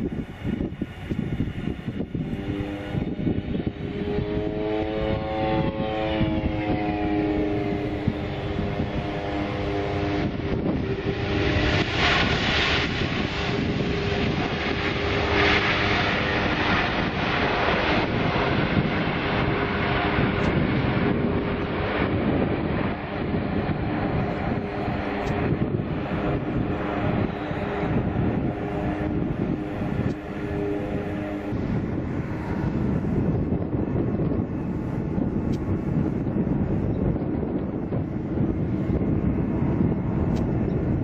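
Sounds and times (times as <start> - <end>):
jet engines whining: 0.0 - 41.0
wind buffeting microphone: 0.0 - 41.0.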